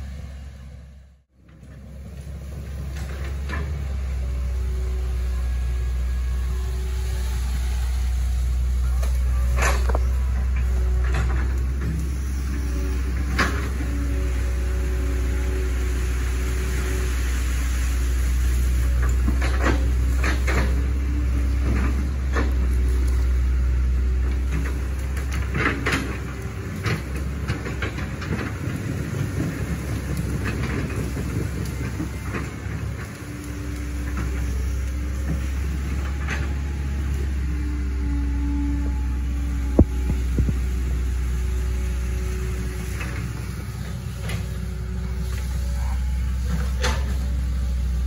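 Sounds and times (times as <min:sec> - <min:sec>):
excavator diesel engine drone: 0:00.0 - 0:48.0.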